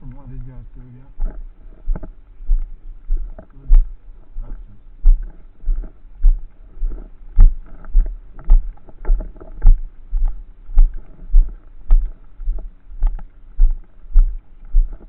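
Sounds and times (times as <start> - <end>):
heavy thumps of footsteps: 1.2 - 15.0.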